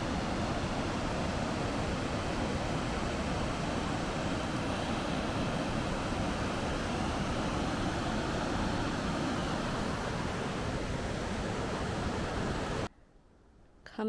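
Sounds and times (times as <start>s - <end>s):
steady broadband rushing noise: 0.0s - 12.9s.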